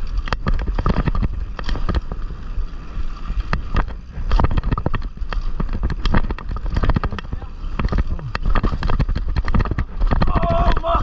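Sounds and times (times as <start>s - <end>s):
tyres rumbling on dirt: 0.0s - 11.0s
wind on microphone: 0.0s - 11.0s.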